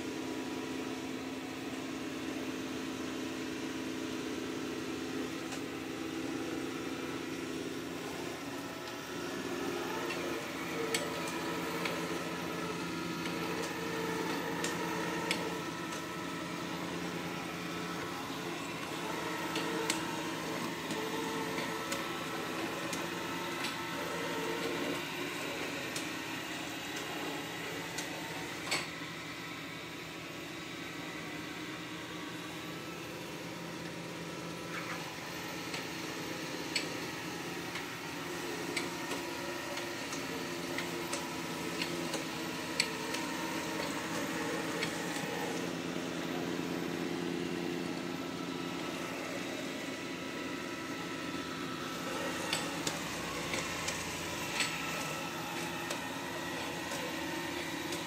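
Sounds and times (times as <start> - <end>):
robot vacuum humming: 0.0 - 58.0.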